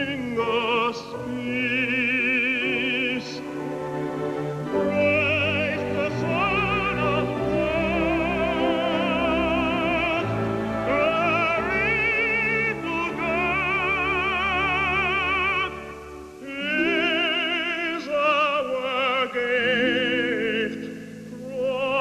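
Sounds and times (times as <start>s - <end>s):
operatic solo singing: 0.0s - 22.0s
orchestral accompaniment: 0.0s - 22.0s.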